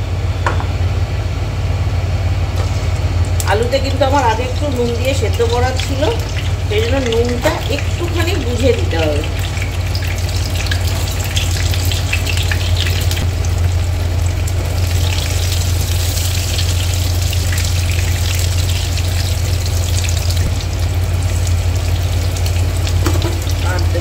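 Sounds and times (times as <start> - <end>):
steady low hum: 0.0 - 24.0
potatoes sizzling in hot oil: 3.8 - 24.0.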